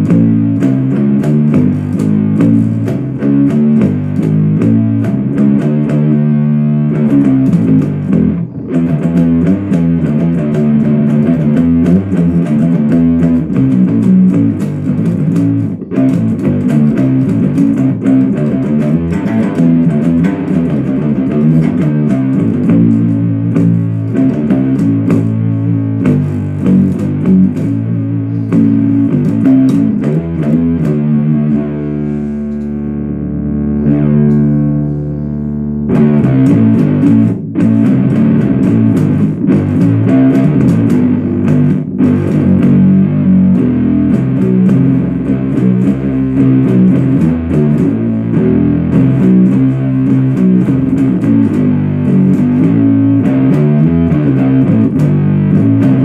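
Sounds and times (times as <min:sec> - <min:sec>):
fuzzed bass guitar riff: 0:00.0 - 0:56.0.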